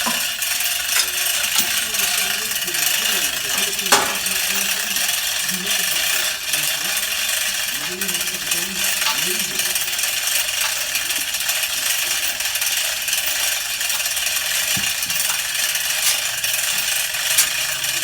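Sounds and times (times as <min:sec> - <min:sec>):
rattling clatter: 0:00.0 - 0:18.0.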